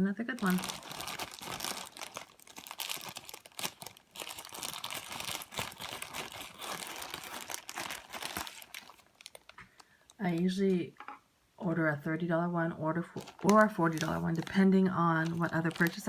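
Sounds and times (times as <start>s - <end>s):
plastic packaging crinkling: 0.3s - 10.6s, 13.2s - 16.0s.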